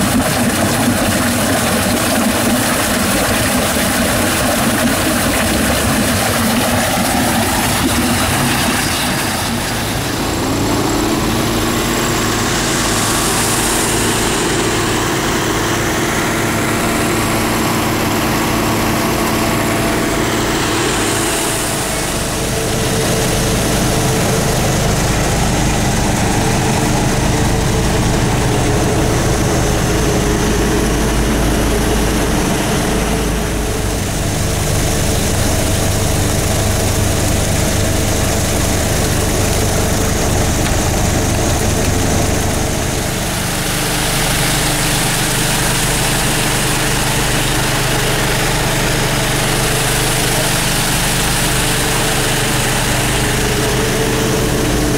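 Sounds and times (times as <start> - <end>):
engine hum: 0.0 - 54.9.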